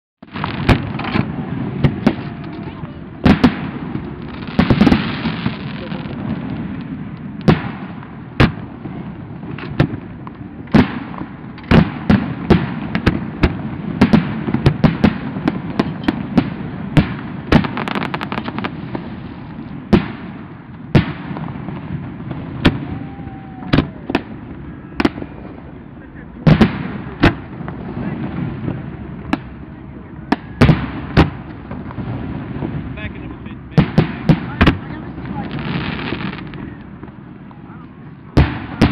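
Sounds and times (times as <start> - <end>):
fireworks bangs: 0.2 - 38.9.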